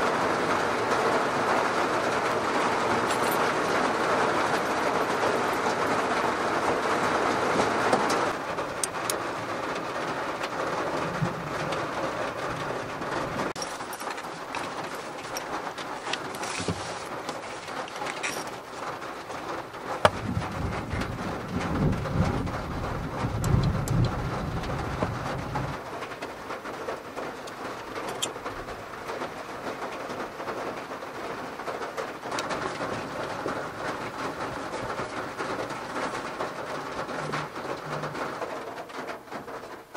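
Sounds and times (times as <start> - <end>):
heavy rain drumming on car roof: 0.0 - 39.9.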